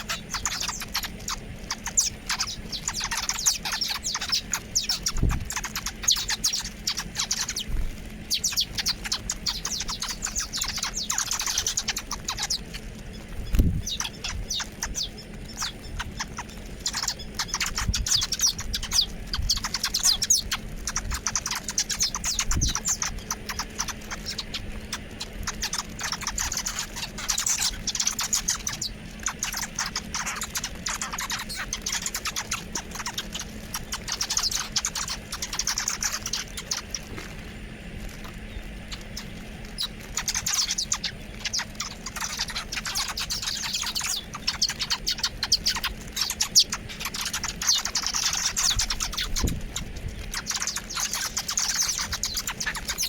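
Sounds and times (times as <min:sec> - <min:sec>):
flock of small birds chirping: 0:00.0 - 0:53.0.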